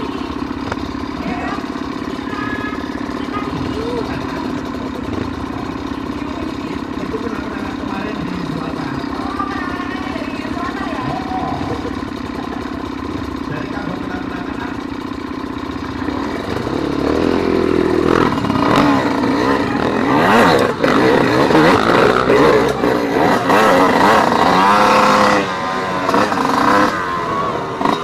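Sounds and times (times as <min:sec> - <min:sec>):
motorcycle engines idling and revving: 0:00.0 - 0:28.0.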